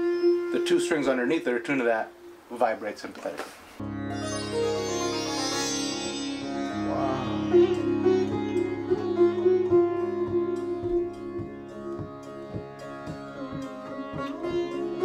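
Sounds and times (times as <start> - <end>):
sitar playing: 0.0 - 2.8, 3.8 - 15.0.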